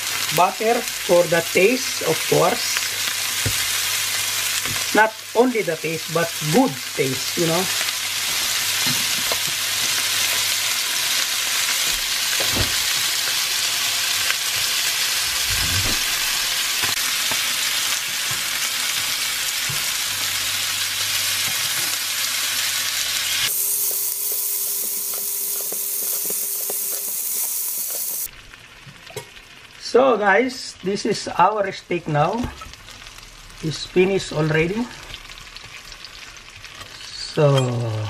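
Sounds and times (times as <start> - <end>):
steaks sizzling in a frying pan: 0.0 - 31.6, 32.2 - 38.0.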